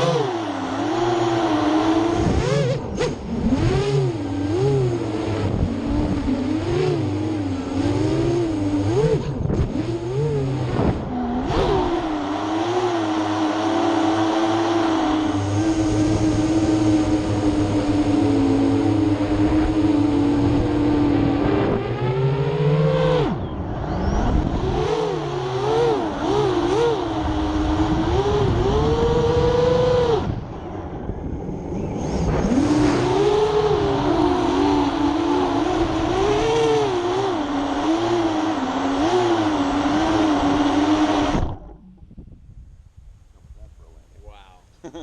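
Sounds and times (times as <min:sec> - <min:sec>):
drone motors whining: 0:00.0 - 0:42.4.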